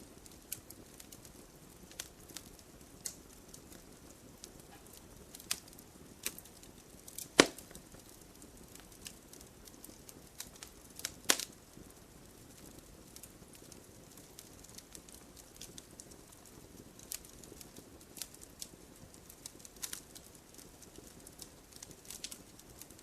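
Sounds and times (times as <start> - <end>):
loud snaps from fire: 0.0 - 23.0
wood fire crackling: 0.0 - 23.0.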